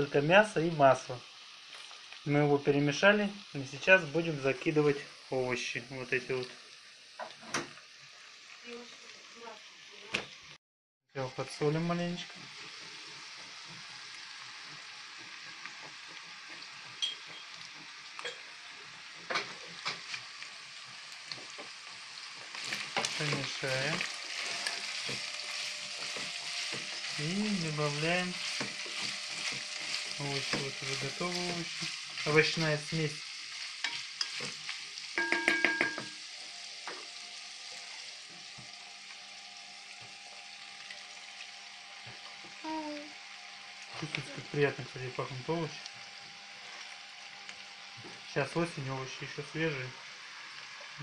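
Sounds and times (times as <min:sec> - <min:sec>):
meat sizzling in oil: 0:00.0 - 0:10.6, 0:11.2 - 0:51.0.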